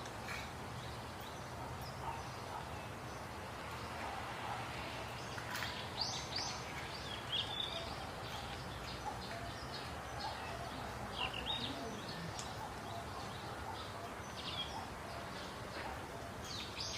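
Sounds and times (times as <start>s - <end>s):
birds chirping: 0.0s - 16.9s
low background hiss: 0.0s - 16.9s.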